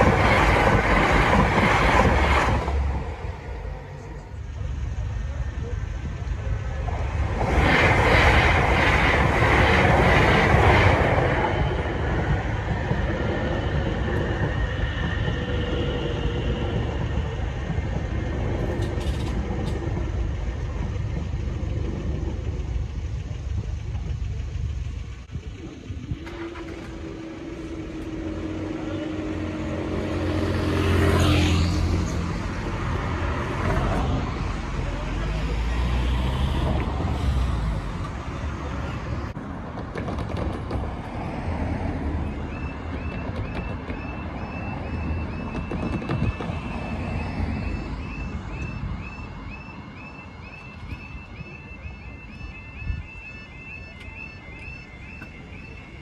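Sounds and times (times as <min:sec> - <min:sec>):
road vehicle engine humming: 0:00.0 - 0:56.0
train wheels on rails: 0:00.0 - 0:56.0.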